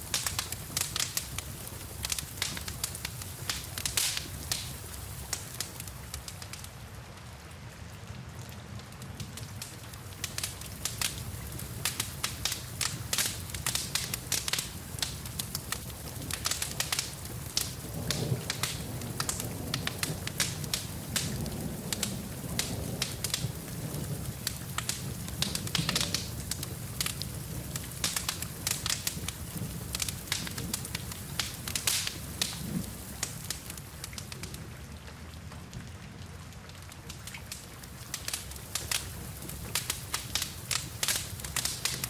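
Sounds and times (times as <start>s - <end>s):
wood fire crackling and popping: 0.0s - 6.8s, 8.3s - 34.7s, 36.6s - 42.0s
rain hiss: 0.0s - 42.0s.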